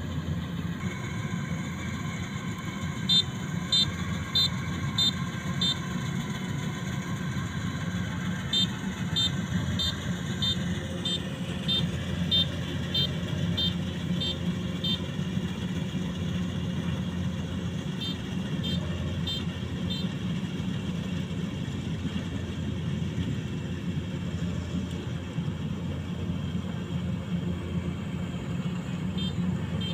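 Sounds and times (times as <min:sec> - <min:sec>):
combine harvester engine hum: 0:00.0 - 0:29.9.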